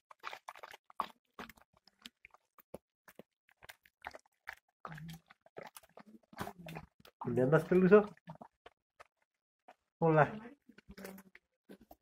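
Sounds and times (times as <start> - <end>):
dog chewing food: 0.0 - 12.0.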